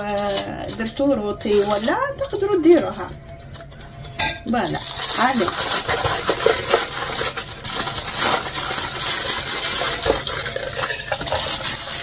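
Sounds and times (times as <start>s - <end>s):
metal utensils clinking on a dish: 0.0s - 7.4s, 8.2s - 12.0s.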